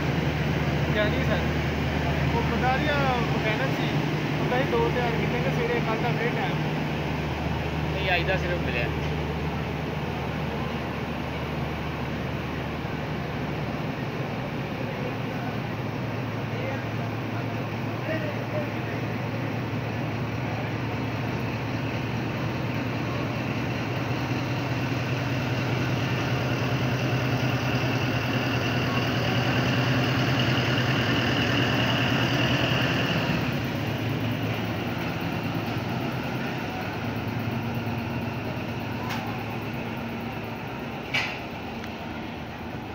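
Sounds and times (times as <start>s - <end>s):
locomotive engine drone: 0.0s - 42.9s.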